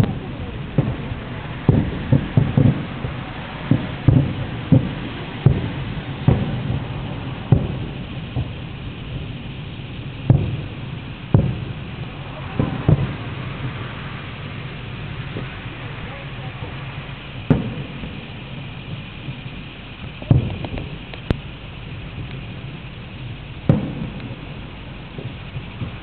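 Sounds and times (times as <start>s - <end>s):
distant fireworks booming: 0.0s - 26.0s
steady background noise: 0.0s - 26.0s.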